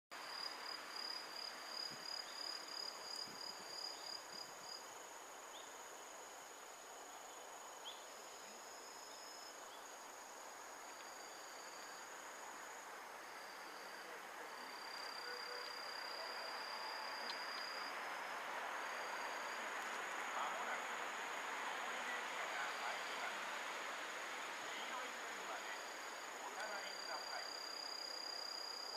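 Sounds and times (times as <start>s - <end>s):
insects chirping: 0.2s - 28.9s.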